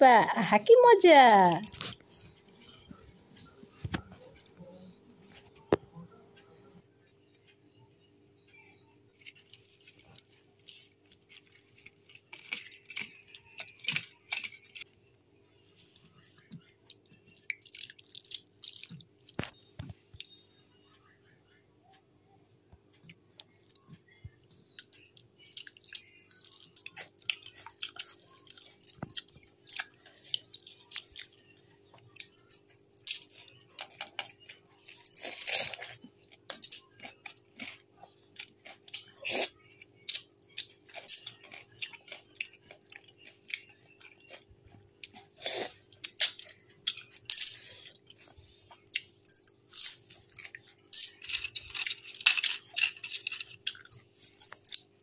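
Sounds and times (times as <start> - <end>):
chewing and crunching food: 8.5 - 15.3, 15.9 - 21.1, 22.9 - 55.0.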